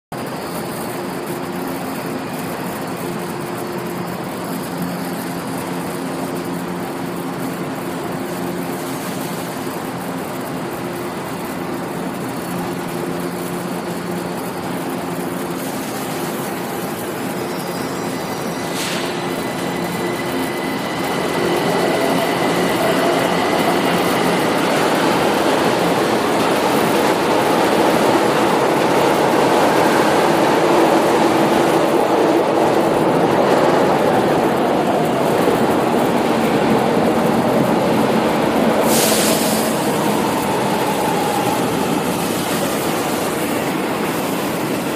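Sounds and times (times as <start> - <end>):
train low hum: 0.1 - 44.9.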